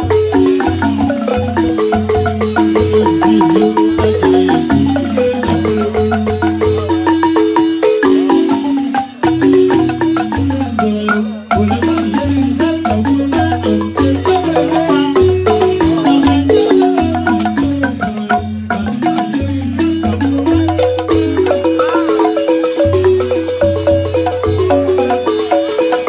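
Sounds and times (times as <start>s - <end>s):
wooden xylophone played with mallets: 0.0s - 26.0s.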